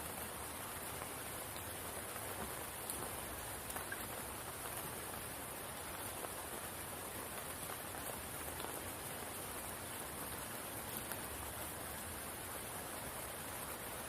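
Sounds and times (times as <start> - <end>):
rain falling on a pool: 0.0 - 14.0.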